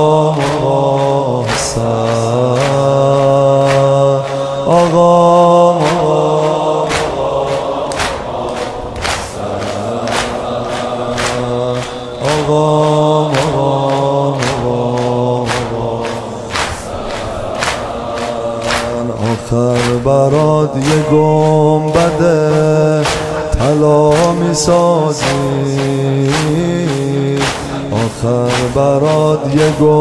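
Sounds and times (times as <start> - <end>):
steady beat: 0.0 - 30.0
voices chanting long notes: 0.0 - 30.0.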